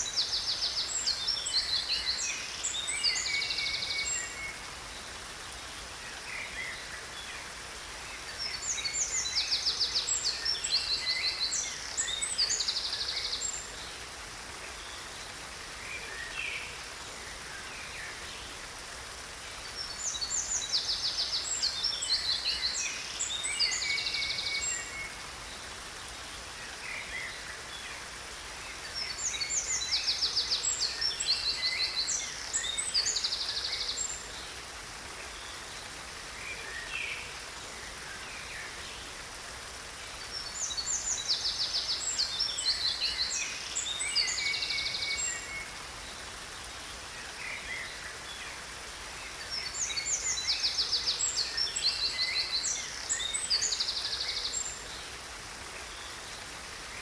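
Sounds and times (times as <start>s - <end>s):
rushing falling water: 0.0s - 57.0s.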